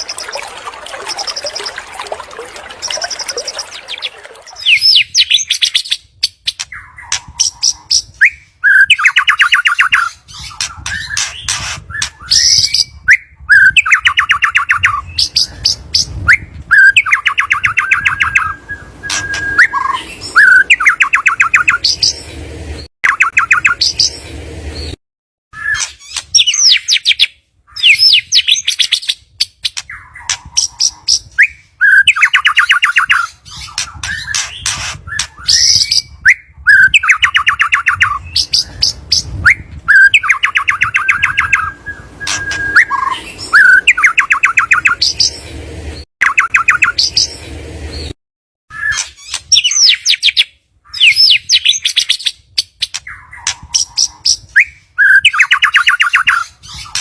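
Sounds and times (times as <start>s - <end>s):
songbird whistling and trilling: 2.7s - 22.2s, 23.0s - 24.2s, 25.6s - 45.4s, 46.2s - 48.1s, 48.7s - 57.0s.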